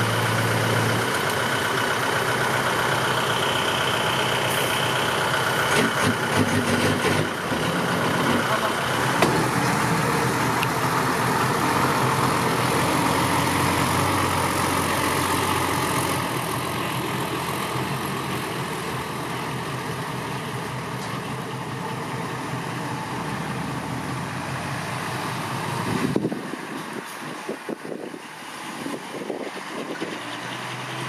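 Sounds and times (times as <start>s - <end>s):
dump truck engine running: 0.0s - 31.0s.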